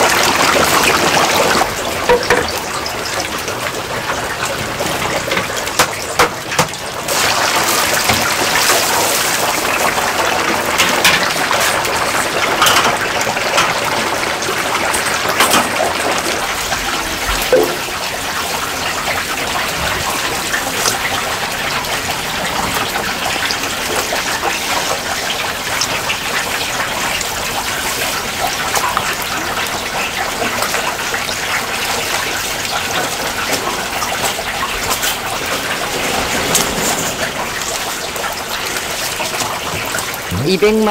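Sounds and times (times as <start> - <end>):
chicken deep-frying in oil: 0.0 - 40.9.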